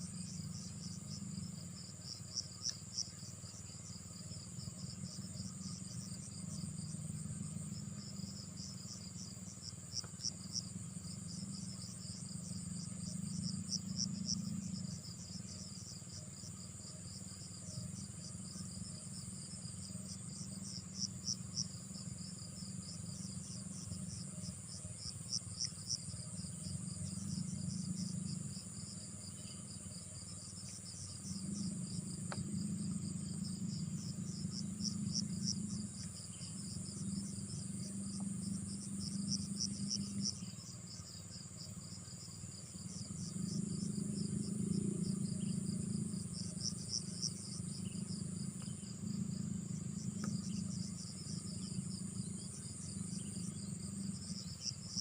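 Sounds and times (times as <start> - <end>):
crickets chirping in pulses: 0.0 - 55.0
high continuous insect trill: 0.0 - 55.0
low steady hum: 0.0 - 55.0.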